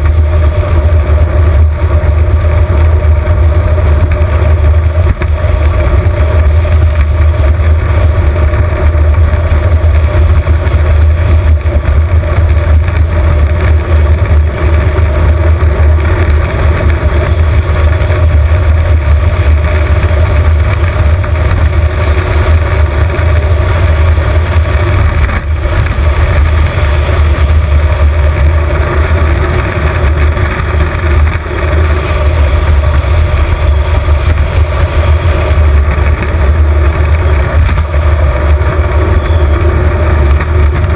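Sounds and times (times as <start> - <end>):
wheels rumbling on asphalt: 0.0 - 40.9.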